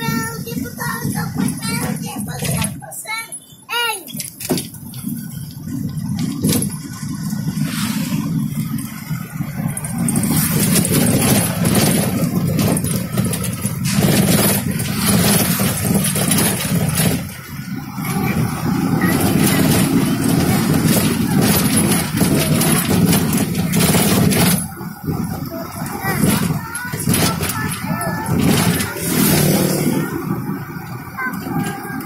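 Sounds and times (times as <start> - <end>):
vehicle engine running: 0.0 - 2.8, 4.6 - 32.0
wind and road noise: 0.0 - 32.0.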